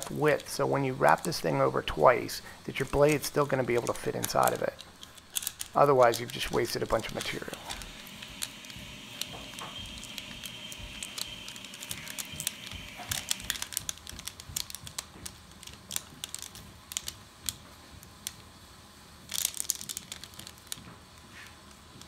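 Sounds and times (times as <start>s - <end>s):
metal foil crinkling and clicking: 0.0s - 18.4s, 19.2s - 22.0s.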